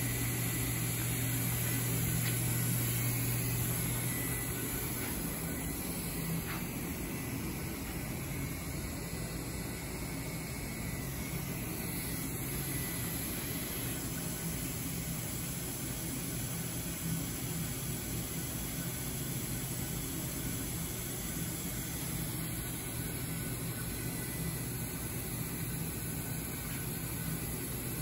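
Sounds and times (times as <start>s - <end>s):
machinery droning with hiss: 0.0s - 28.0s.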